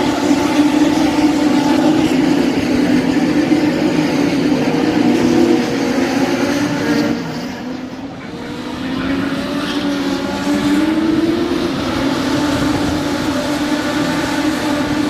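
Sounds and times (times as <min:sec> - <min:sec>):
racing car engines at speed: 0:00.0 - 0:15.0.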